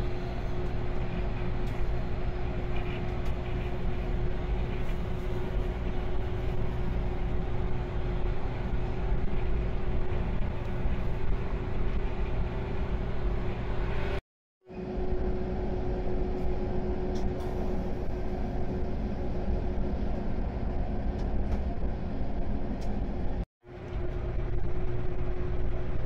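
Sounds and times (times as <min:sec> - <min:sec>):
constant hum: 0:00.0 - 0:26.0
electric train rumbling inside carriage: 0:00.0 - 0:26.0.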